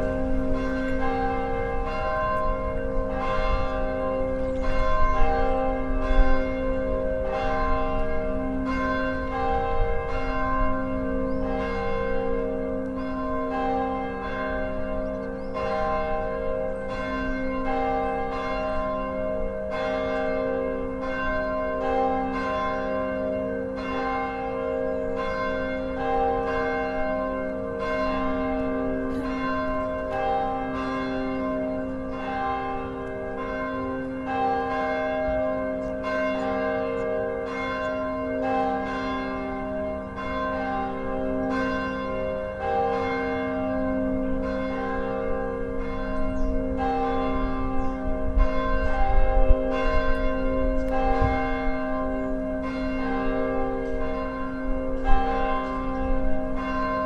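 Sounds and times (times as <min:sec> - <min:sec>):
church bells ringing: 0:00.0 - 0:57.0.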